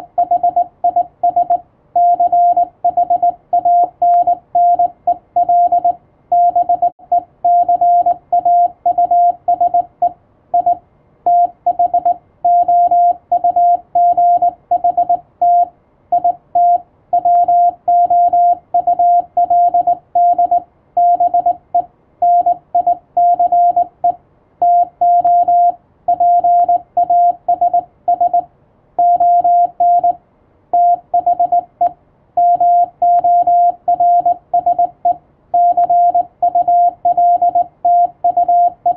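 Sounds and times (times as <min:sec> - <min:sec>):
morse code beeps: 0:00.0 - 0:30.2, 0:30.8 - 0:38.9.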